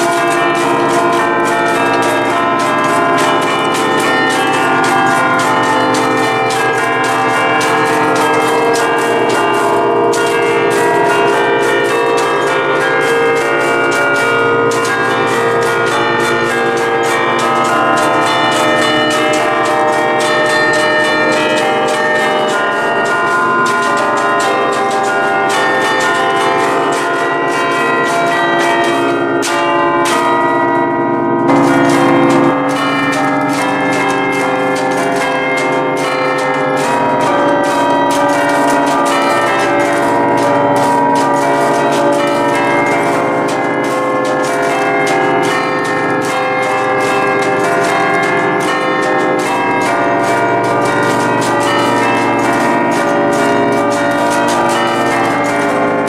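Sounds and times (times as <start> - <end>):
church bells ringing rapidly: 0.0 - 56.0.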